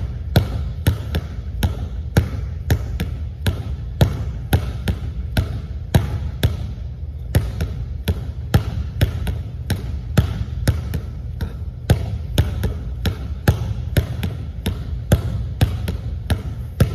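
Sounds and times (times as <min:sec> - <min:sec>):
basketball bouncing on gym floor: 0:00.0 - 0:16.9
steady low hum: 0:00.0 - 0:16.9.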